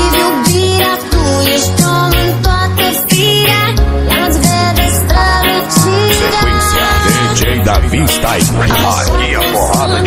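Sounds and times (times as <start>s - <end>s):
music with bass and vocal: 0.0s - 10.0s.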